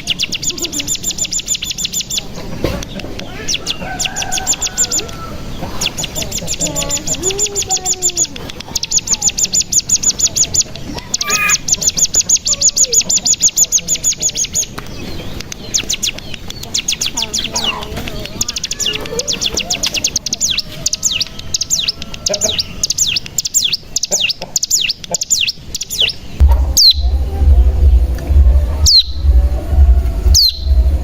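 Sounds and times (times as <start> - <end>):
bird fast trill: 0.0 - 27.0, 30.4 - 30.7
soft low warbling calls: 0.0 - 31.0.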